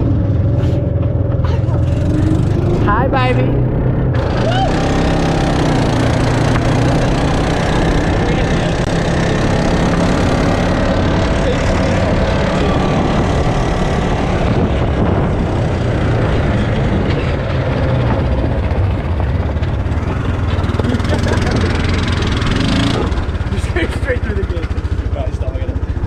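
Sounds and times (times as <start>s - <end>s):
small vehicle engine running: 0.0s - 26.0s.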